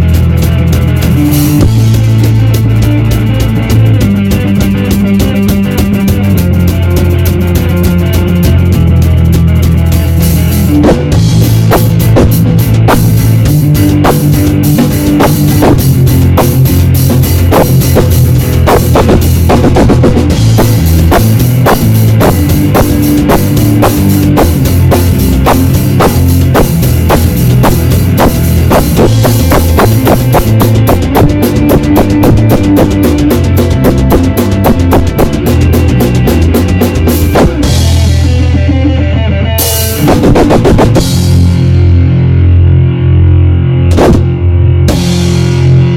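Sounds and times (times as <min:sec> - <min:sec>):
heavy bass drum: 0:00.0 - 0:45.9
rock band playing: 0:00.0 - 0:45.9.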